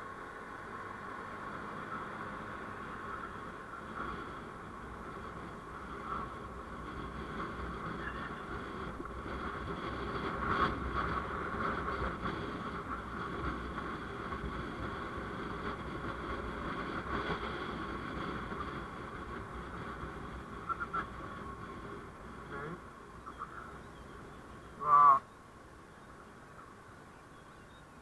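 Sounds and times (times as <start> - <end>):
road and traffic rumble: 0.0 - 28.0.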